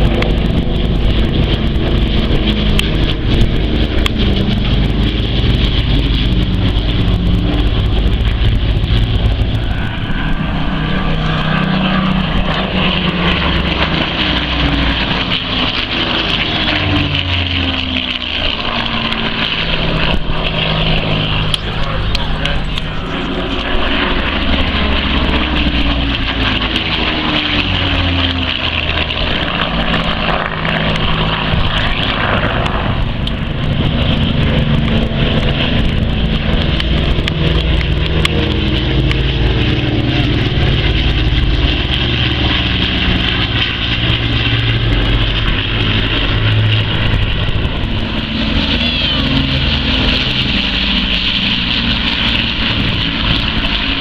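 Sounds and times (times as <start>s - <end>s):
loud engine noise: 0.0s - 54.0s.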